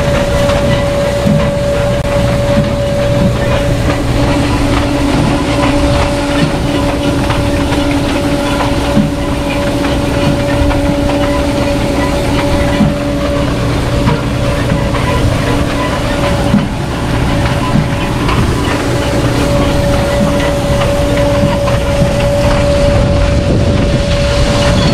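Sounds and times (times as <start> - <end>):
constant machine whine: 0.0 - 24.9
continuous rattling: 0.0 - 24.9
potato harvester rumbling: 0.0 - 24.9.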